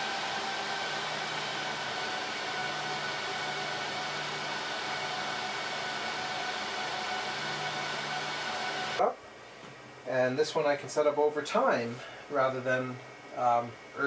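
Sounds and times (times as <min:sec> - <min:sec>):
server cooling fans whirring: 0:00.0 - 0:14.0.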